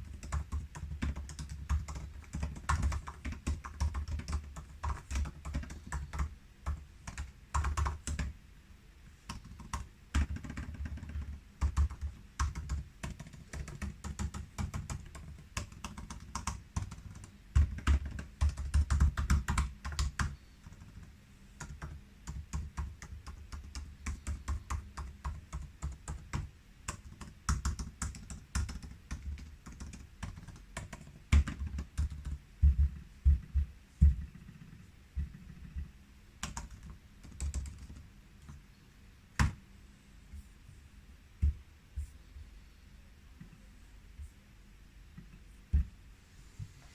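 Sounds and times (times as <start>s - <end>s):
laptop keyboard typing: 0.0s - 8.4s, 9.2s - 38.6s, 39.4s - 39.6s.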